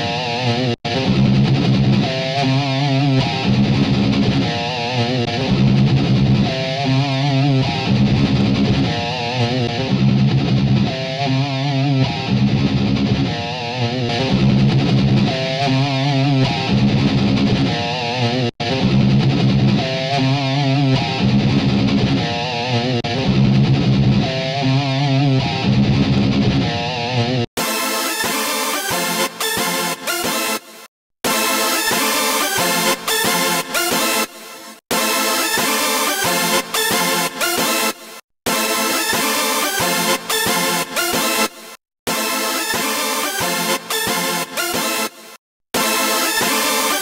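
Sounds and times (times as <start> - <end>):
distorted electric guitar riff: 0.0 - 47.0.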